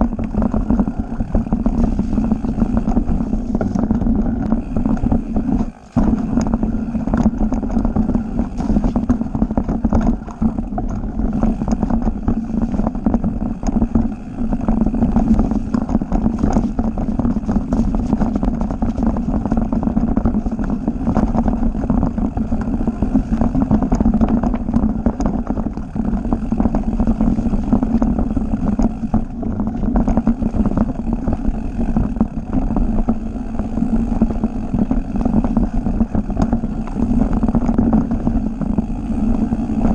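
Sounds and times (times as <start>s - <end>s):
bike knocks and rattles: 0.0s - 39.9s
bike tyre rumble: 0.0s - 39.9s.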